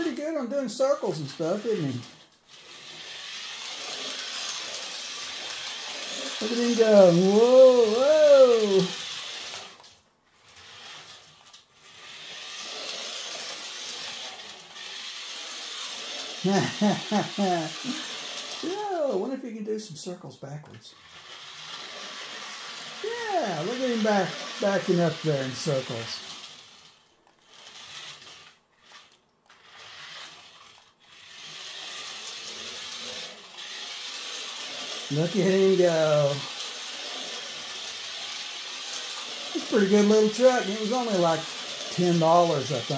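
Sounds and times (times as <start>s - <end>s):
toy truck motor whirring: 0.0s - 42.9s.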